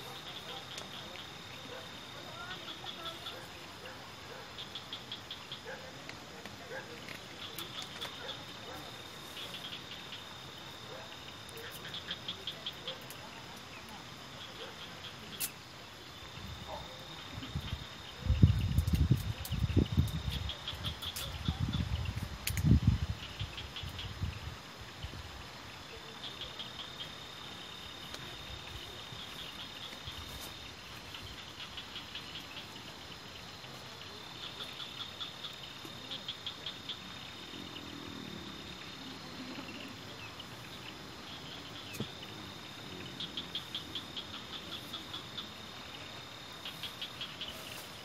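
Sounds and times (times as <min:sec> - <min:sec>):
insects trilling: 0:00.0 - 0:48.0
rapid insect chirps: 0:00.0 - 0:48.0.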